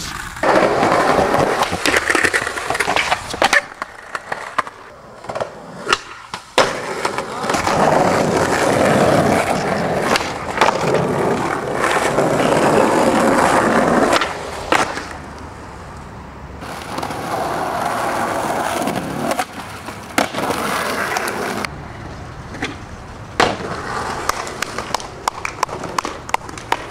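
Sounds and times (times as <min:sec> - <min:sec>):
skateboard clacking on ground: 0:00.0 - 0:26.9
skateboard wheels rolling on paving: 0:00.0 - 0:26.9.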